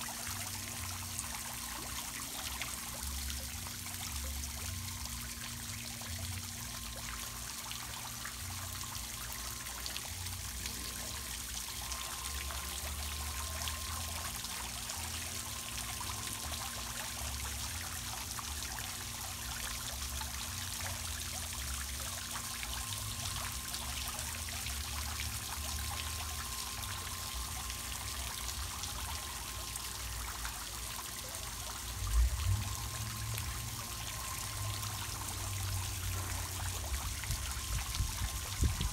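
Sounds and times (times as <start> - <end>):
water trickling over rocks: 0.0 - 38.9.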